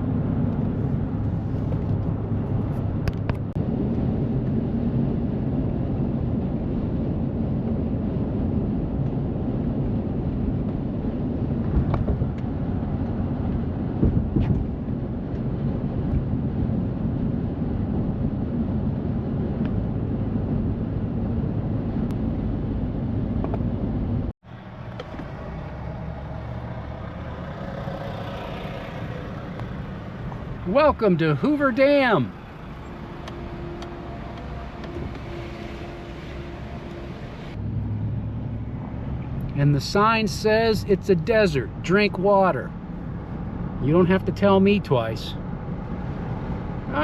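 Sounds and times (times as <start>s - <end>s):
car road and engine noise: 0.0s - 47.0s.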